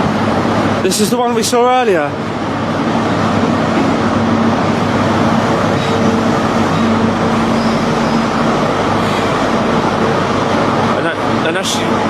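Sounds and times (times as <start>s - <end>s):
diesel train engines droning: 0.0s - 12.0s.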